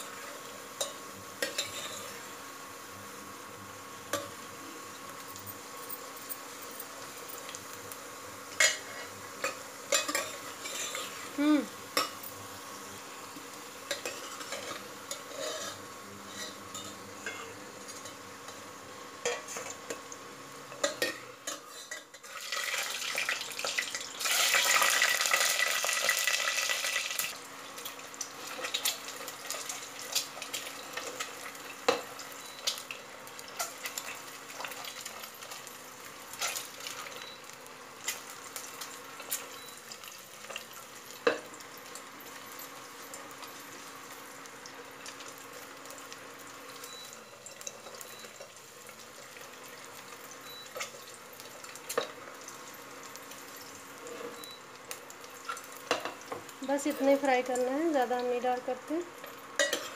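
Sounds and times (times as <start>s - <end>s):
loud sizzle of eggs in oil: 0.0s - 59.9s
potatoes frying in oil: 0.0s - 59.9s.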